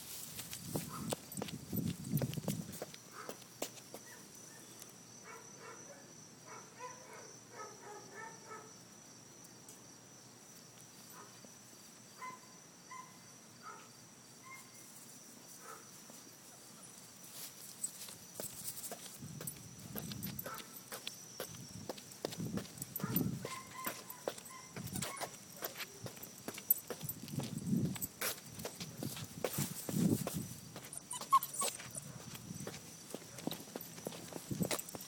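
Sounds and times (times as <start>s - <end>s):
faint high-pitched insect chorus: 0.0s - 35.0s.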